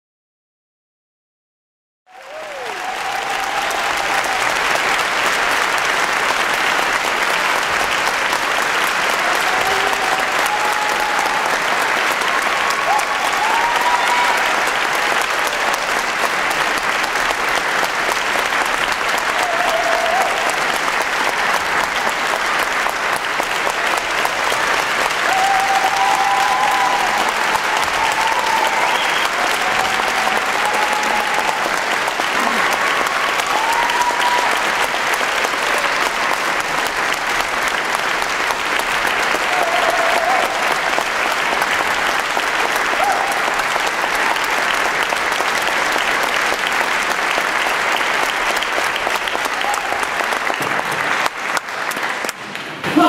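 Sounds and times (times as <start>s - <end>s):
audience applauding: 2.1s - 53.0s.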